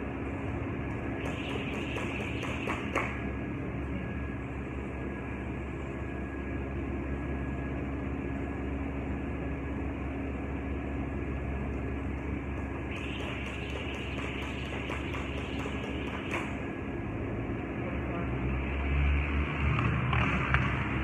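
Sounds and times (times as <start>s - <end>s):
large cooling fan running: 0.0s - 21.0s.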